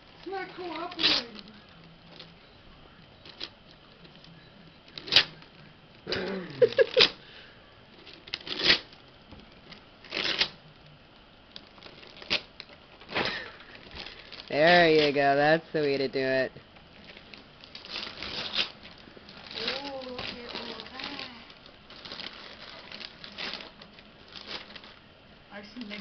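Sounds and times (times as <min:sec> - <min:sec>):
wrapping paper rustling and tearing: 0:00.0 - 0:02.4, 0:03.2 - 0:07.3, 0:07.9 - 0:10.8, 0:11.5 - 0:15.2, 0:16.9 - 0:26.0.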